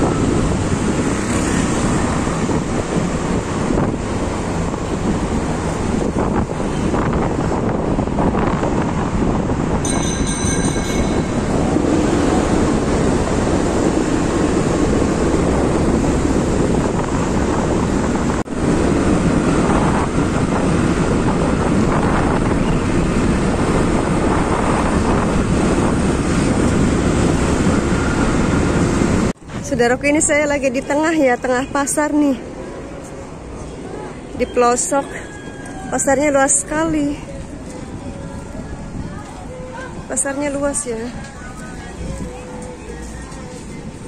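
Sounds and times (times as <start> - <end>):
wind rush on microphone: 0.0 - 34.4, 35.3 - 44.0.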